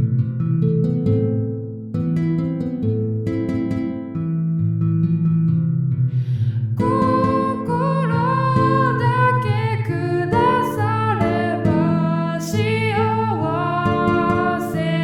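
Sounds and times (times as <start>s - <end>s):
plucked string accompaniment: 0.0s - 15.0s.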